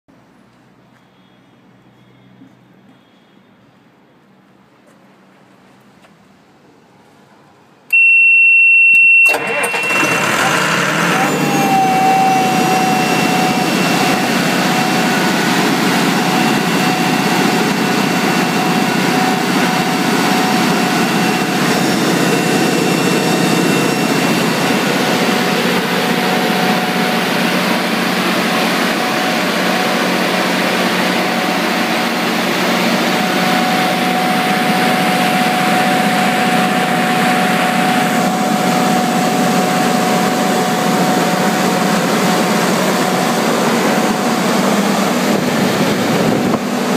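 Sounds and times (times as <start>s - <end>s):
thin steady whine: 7.8s - 46.9s
diesel generator running: 7.9s - 46.9s.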